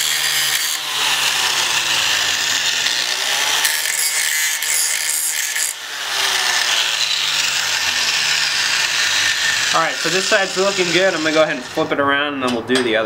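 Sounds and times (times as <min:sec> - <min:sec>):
angle grinder grinding steel: 0:00.0 - 0:12.0.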